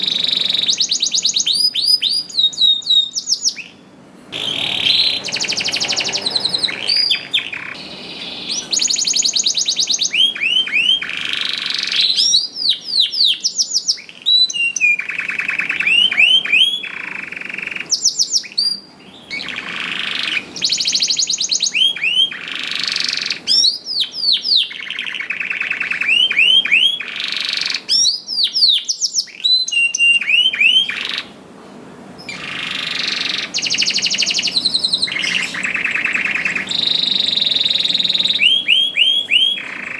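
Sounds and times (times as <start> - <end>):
canary singing trills: 0.0 - 31.4, 32.2 - 39.9.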